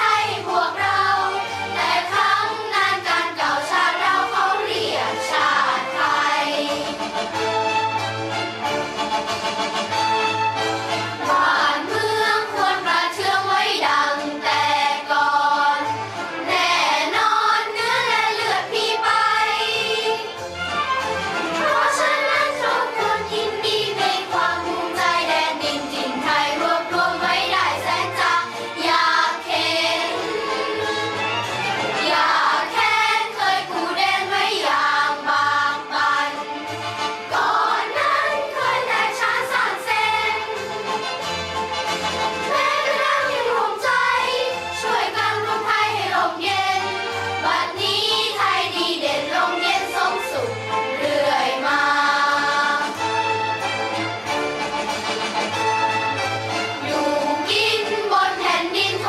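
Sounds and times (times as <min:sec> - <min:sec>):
children's choir singing: 0:00.0 - 0:08.0, 0:09.7 - 0:53.9, 0:55.3 - 0:59.0.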